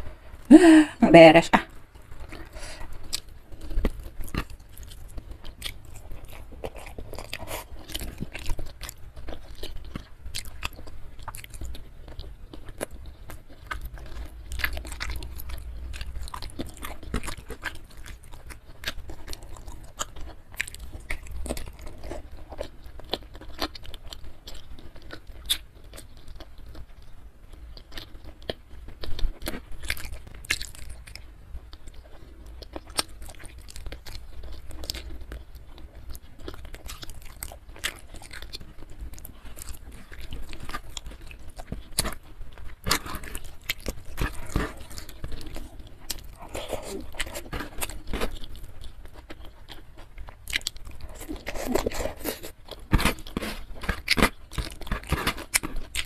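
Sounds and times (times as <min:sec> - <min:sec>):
person chewing and crunching food: 0:01.7 - 0:56.0.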